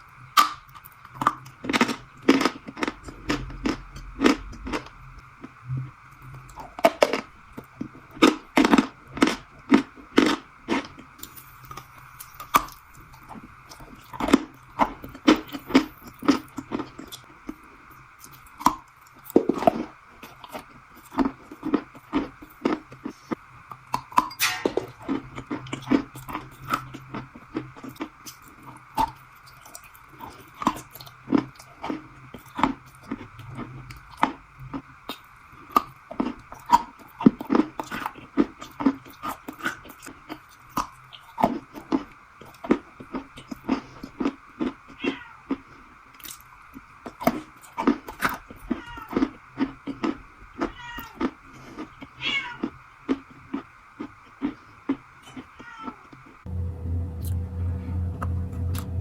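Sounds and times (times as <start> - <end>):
crunchy food being chewed: 0.0 - 56.4
background hum: 0.0 - 59.0.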